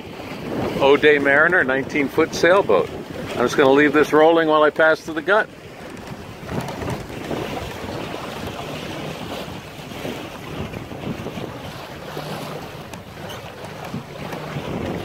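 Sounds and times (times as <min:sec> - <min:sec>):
water splashing against hull: 0:00.0 - 0:15.0
wind buffeting microphone: 0:00.0 - 0:15.0.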